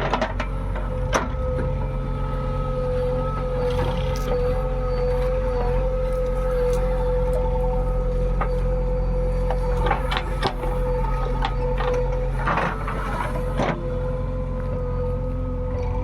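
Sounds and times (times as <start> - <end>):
diesel engine whining: 0.0 - 16.0.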